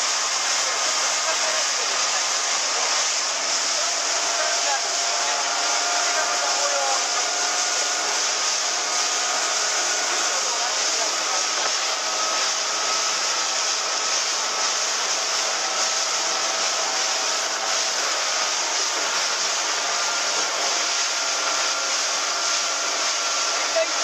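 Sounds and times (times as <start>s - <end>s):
faint boat engine: 0.0s - 24.0s
wind and water rushing: 0.0s - 24.0s.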